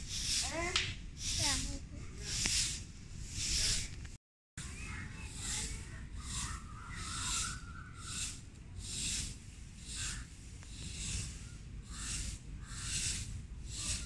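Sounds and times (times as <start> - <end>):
broom sweeping sand: 0.0 - 14.0.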